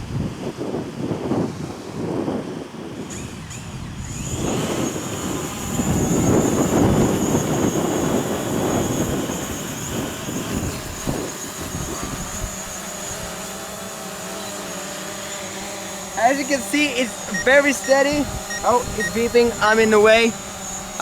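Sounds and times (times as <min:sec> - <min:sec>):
wind buffeting microphone: 0:00.0 - 0:13.5, 0:16.0 - 0:21.0
drone propellers whining: 0:03.0 - 0:21.0.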